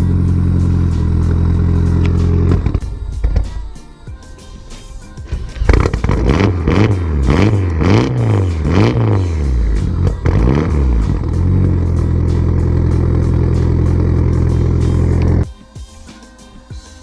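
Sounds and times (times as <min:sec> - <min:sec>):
engine revving and idling: 0:00.0 - 0:15.5.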